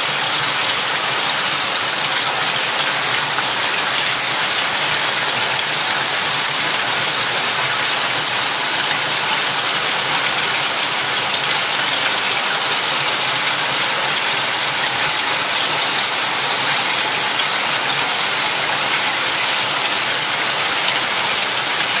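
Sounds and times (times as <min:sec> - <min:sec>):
aquarium water rushing and splashing: 0:00.0 - 0:22.0.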